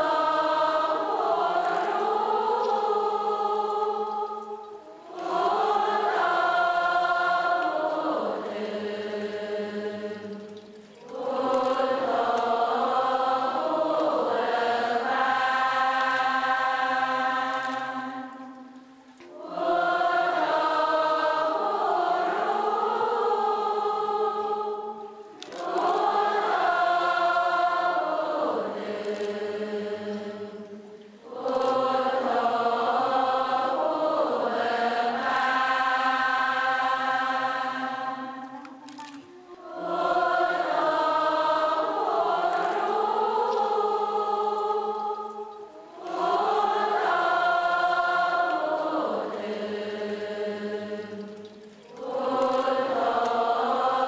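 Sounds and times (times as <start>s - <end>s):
voices chanting together: 0.0s - 54.0s.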